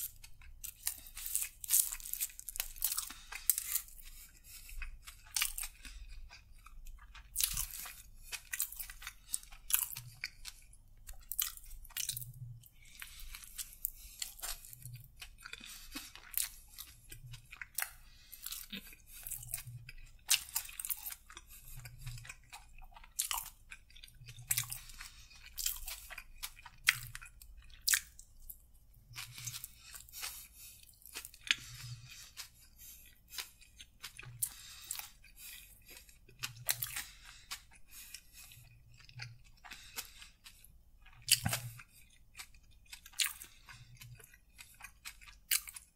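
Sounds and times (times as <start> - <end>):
chewing sandwich: 0.0 - 45.9.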